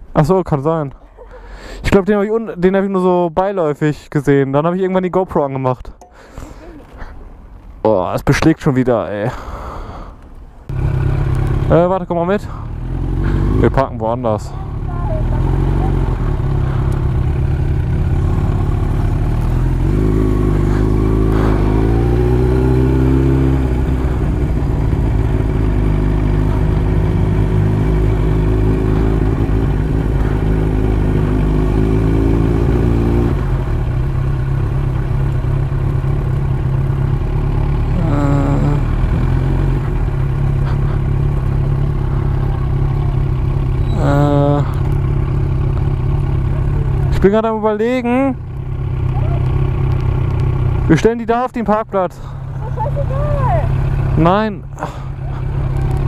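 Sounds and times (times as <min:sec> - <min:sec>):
motorcycle engine running: 0:10.7 - 0:56.0.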